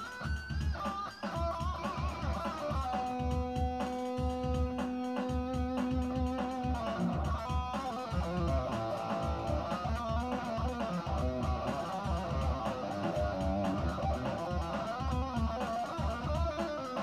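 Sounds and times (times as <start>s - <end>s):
electric guitar picked notes: 0.0s - 17.0s
low regular beat: 0.0s - 17.0s.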